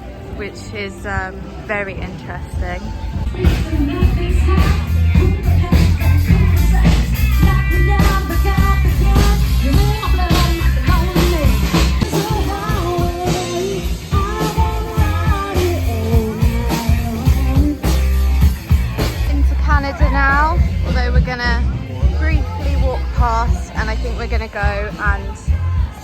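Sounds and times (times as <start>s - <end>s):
upbeat rock music with singing: 0.0s - 26.0s.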